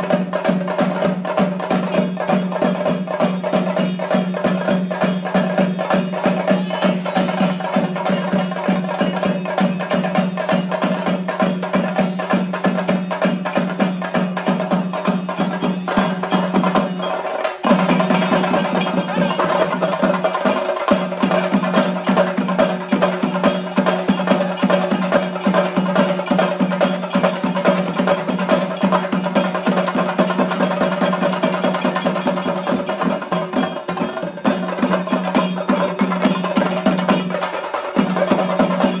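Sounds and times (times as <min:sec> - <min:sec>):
drums beaten in fast rolls: 0:00.0 - 0:39.0.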